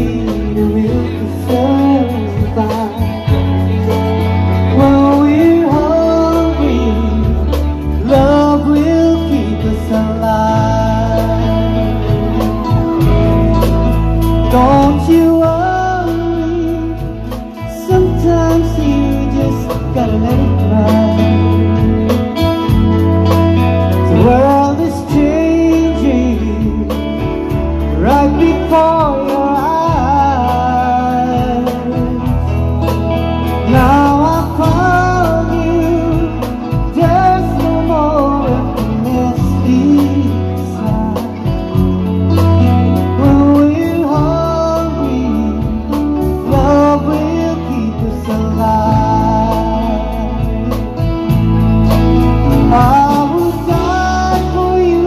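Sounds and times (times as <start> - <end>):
live pop band playing: 0.0 - 55.0.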